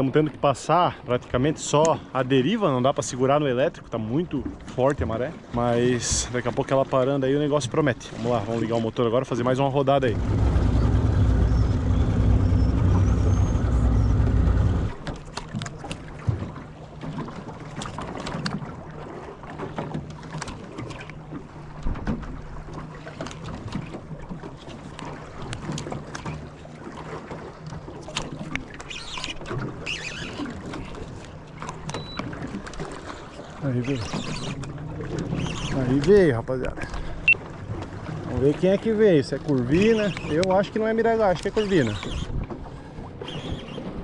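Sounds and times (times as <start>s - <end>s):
outboard motor rumbling: 0.0s - 44.0s
water splashing against hull: 0.0s - 44.0s.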